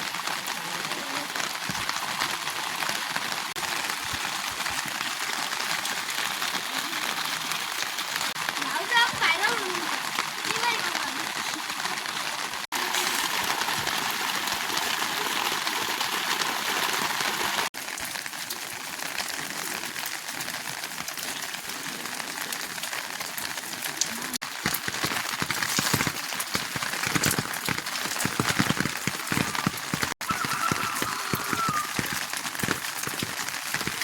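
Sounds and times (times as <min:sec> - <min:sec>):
heavy rain falling: 0:00.0 - 0:34.0
patter of raindrops: 0:00.0 - 0:34.0.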